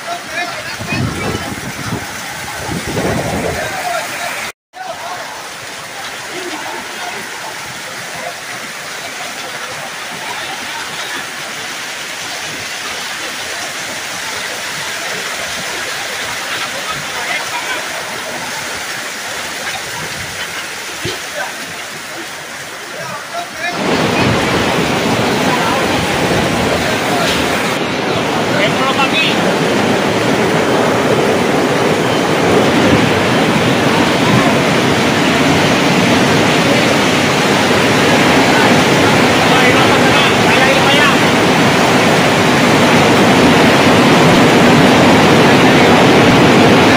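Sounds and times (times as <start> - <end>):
heavy rain on wet road: 0.0 - 46.9.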